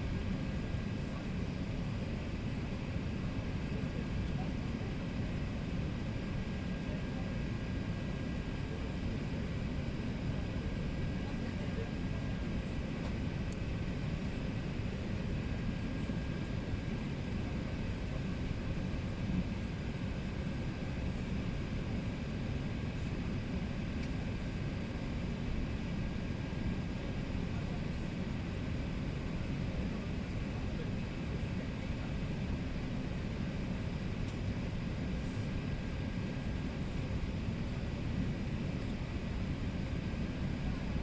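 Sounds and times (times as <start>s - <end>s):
airplane cabin rumble: 0.0s - 41.0s.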